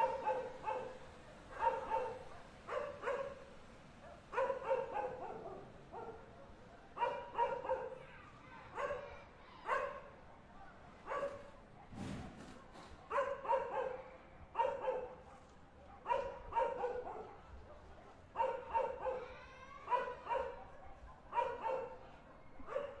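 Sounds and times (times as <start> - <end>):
dog barking: 0.0 - 8.1, 8.7 - 12.0, 12.6 - 19.3, 19.9 - 23.0
faint neighborhood hum: 0.0 - 23.0.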